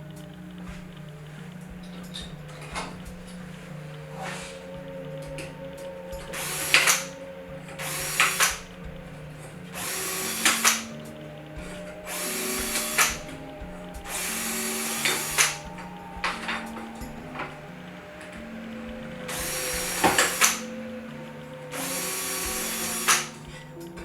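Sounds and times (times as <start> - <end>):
drill clicks: 0.0 - 24.0
faint background music: 0.0 - 24.0
power drill bursts: 0.0 - 24.0.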